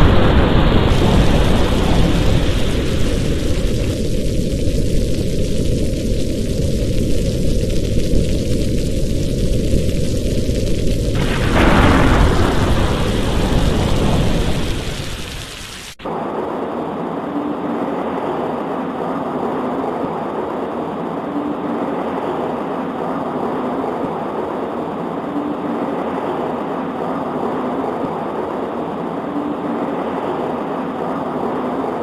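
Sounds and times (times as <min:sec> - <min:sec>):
rain on window glass: 0:00.0 - 0:32.0.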